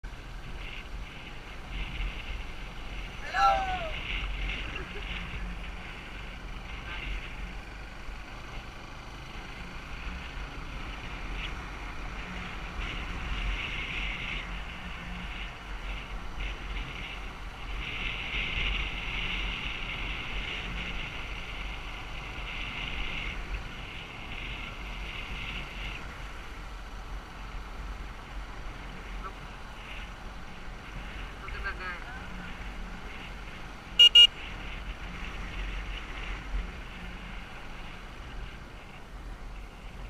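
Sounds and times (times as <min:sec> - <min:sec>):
wind rumbling on microphone: 0:00.0 - 0:40.0.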